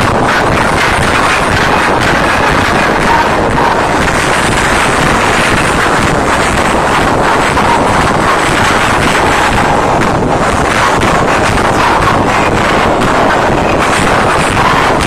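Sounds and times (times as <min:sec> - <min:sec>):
crowd screaming distorted: 0:00.0 - 0:15.0.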